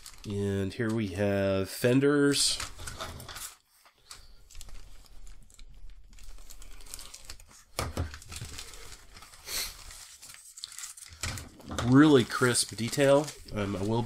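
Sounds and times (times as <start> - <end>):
plastic bag crinkling: 0.0 - 1.4, 2.3 - 14.0.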